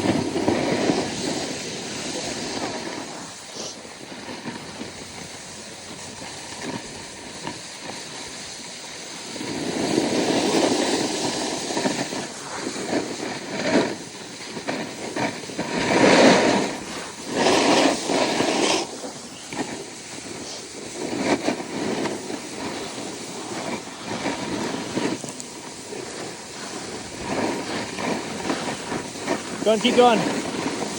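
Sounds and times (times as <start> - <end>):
snowboard scraping over snow: 0.0 - 30.9
wind rushing on microphone: 0.0 - 30.9.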